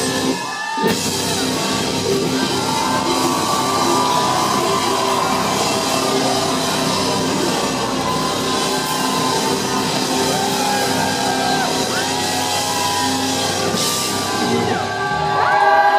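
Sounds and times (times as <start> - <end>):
distorted electric guitars: 0.0 - 15.6
drum kit: 0.0 - 15.6.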